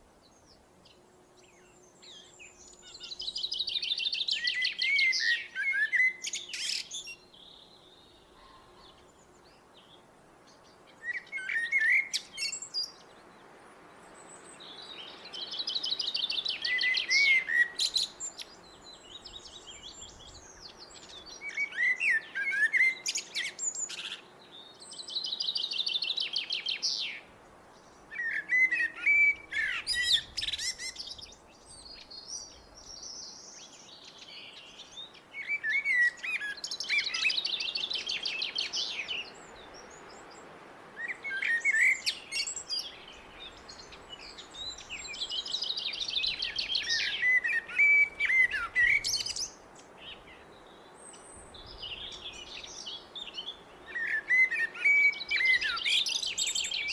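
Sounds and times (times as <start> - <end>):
songbird singing trills: 0.0 - 56.9.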